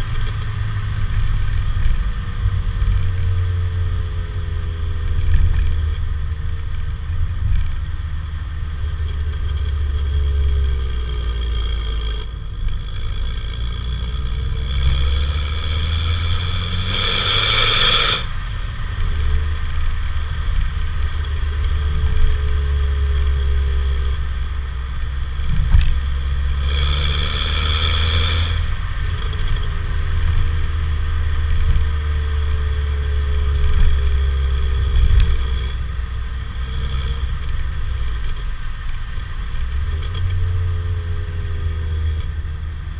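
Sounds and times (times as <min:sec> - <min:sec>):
deep exhaust rumble: 0:00.0 - 0:42.9.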